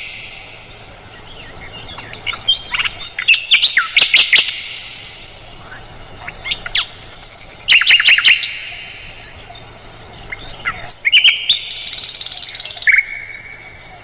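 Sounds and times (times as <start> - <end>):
flycatcher singing: 0.0 - 14.0.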